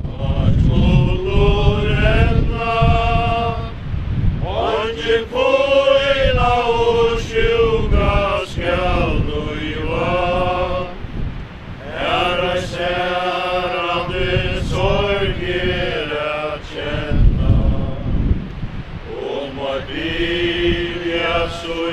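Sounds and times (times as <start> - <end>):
crowd singing a slow hymn: 0.0 - 21.9
wind buffeting microphone: 0.0 - 21.9.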